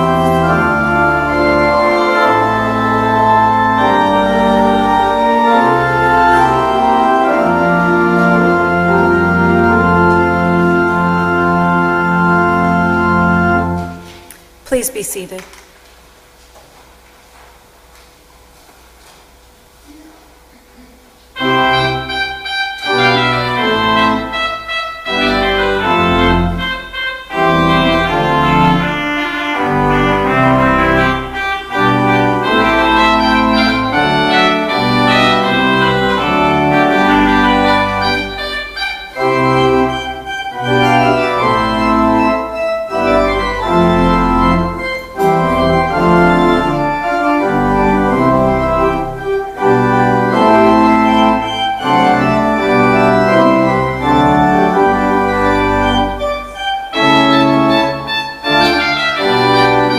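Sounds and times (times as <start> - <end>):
church organ playing chords: 0.0 - 15.2, 21.3 - 59.9.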